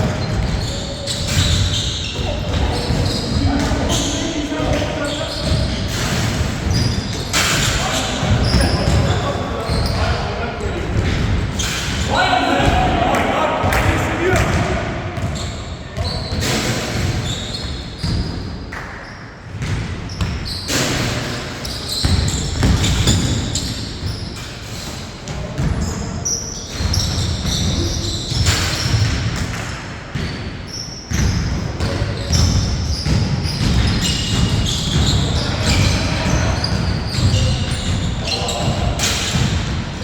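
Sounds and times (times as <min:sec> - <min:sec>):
basketball bouncing on court: 0:00.0 - 0:10.1, 0:10.8 - 0:18.6, 0:19.5 - 0:21.0, 0:21.6 - 0:24.5, 0:25.3 - 0:26.0, 0:26.6 - 0:40.0.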